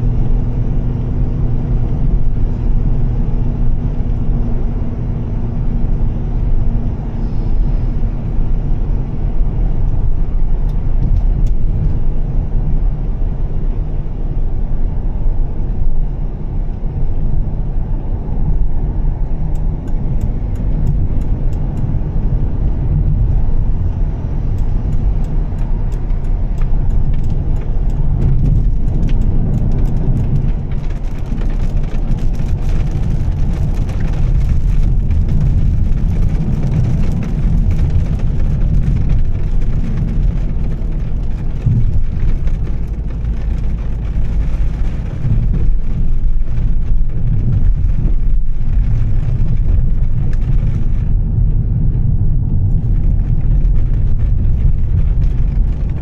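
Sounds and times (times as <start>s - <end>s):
car engine droning: 0.0s - 56.0s
tyre and road noise: 0.0s - 56.0s.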